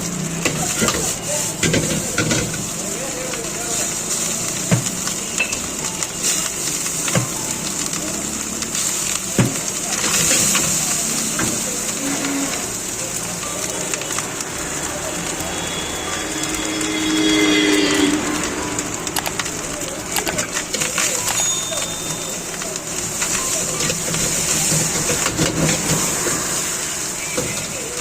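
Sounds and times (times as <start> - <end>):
rice sizzling in a wok: 0.0 - 28.0.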